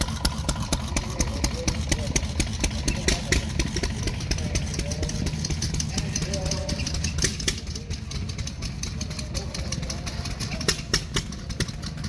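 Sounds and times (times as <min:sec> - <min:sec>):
engine idling: 0:00.0 - 0:12.0
rapid engine clicking: 0:00.0 - 0:12.0.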